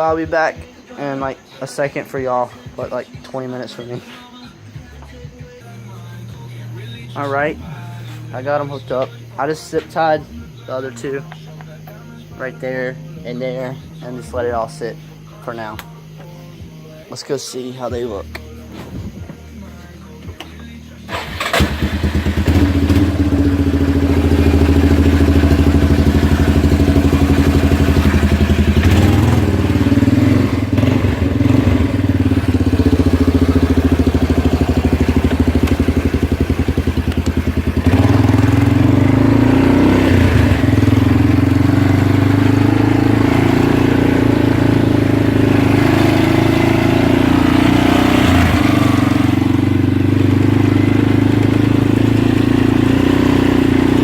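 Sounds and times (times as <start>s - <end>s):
atv engine running: 5.1s - 17.0s, 21.0s - 54.0s.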